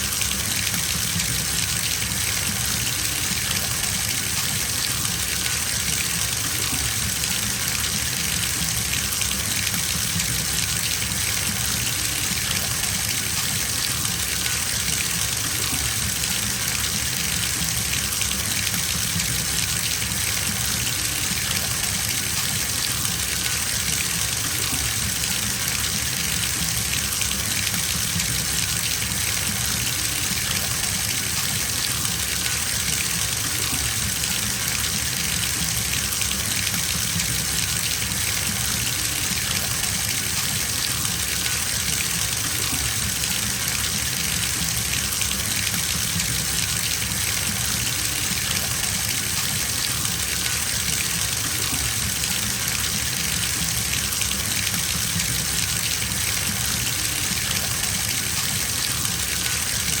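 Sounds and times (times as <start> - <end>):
water pouring into bathtub: 0.0 - 60.0.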